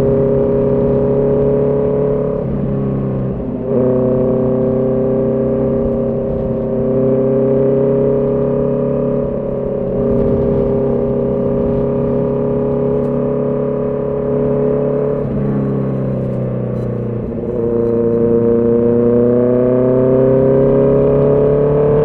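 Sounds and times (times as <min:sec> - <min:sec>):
motorcycle engine at steady throttle: 0:00.0 - 0:22.0.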